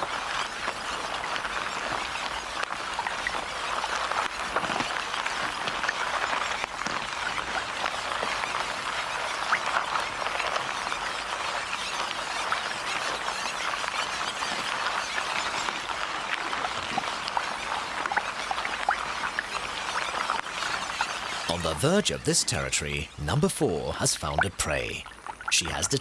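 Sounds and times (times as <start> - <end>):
wet crackling and pattering: 0.0 - 26.0.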